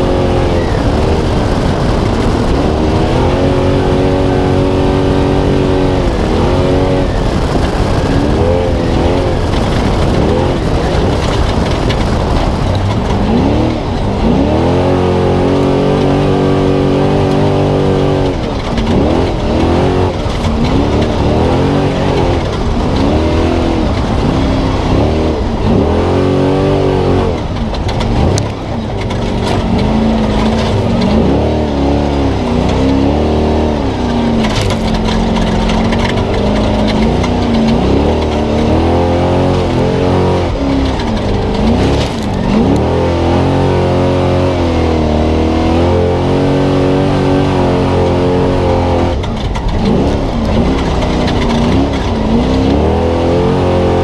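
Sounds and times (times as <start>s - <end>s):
road and wind noise: 0.0s - 54.0s
truck engine revving: 0.0s - 54.0s.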